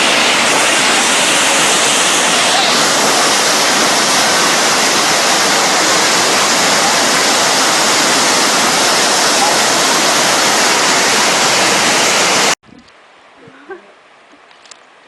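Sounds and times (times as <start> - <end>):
floodwater rushing: 0.0 - 12.6.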